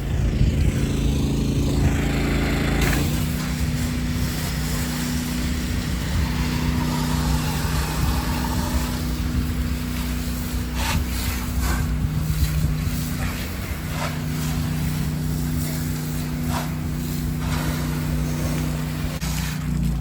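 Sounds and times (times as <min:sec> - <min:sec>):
pressure washer engine running: 0:00.0 - 0:20.0
water spraying hiss: 0:00.8 - 0:20.0.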